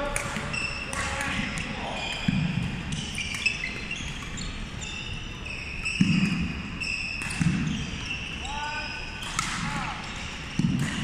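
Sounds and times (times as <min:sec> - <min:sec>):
rackets hitting shuttlecock: 0:00.0 - 0:04.6, 0:05.8 - 0:08.4, 0:09.1 - 0:11.0
sneakers squeaking on court: 0:00.4 - 0:11.0.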